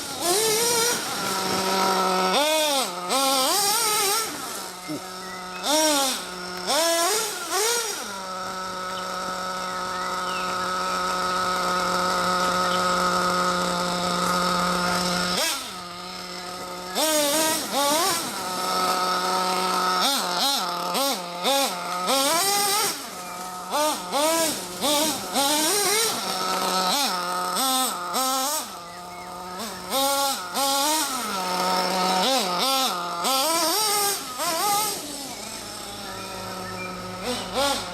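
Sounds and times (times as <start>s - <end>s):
nitro engine revving: 0.0s - 37.9s.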